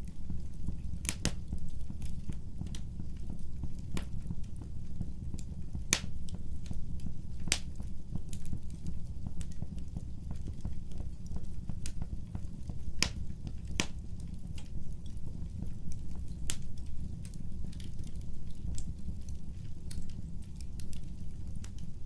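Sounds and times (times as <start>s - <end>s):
burning wood crackling and popping: 0.0s - 22.0s
wood fire rumbling: 0.0s - 22.0s.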